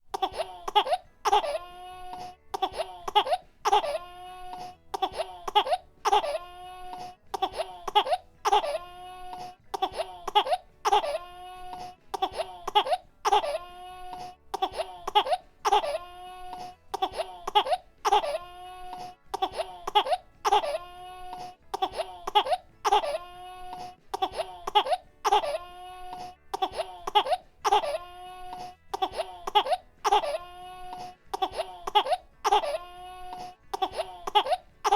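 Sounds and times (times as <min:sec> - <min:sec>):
baby coughing: 0:00.1 - 0:34.9
baby crying: 0:00.2 - 0:34.9.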